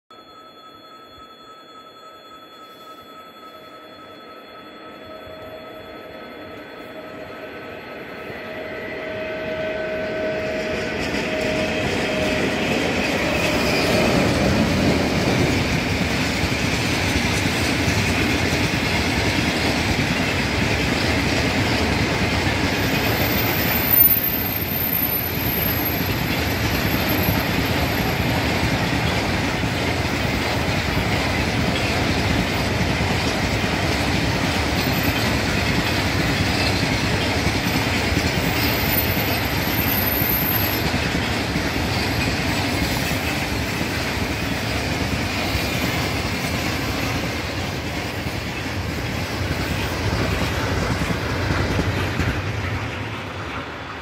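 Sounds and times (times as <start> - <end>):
train wheels squealing: 0.2 - 53.9
freight train rumbling: 6.8 - 54.0
wheels clacking over rail joints: 10.4 - 54.0.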